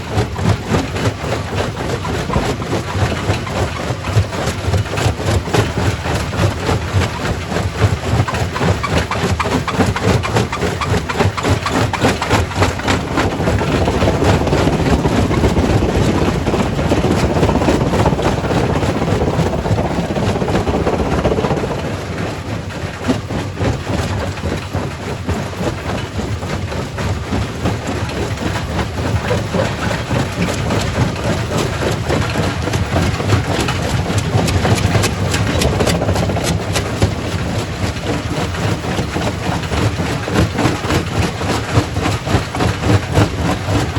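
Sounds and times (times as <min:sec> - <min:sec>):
rock crusher machine drone: 0:00.0 - 0:43.9.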